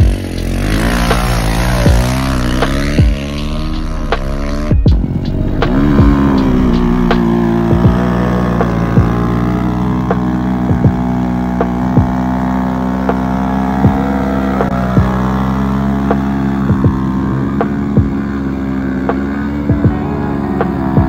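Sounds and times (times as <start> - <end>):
small motorcycle engine at steady revs: 0.0 - 21.0.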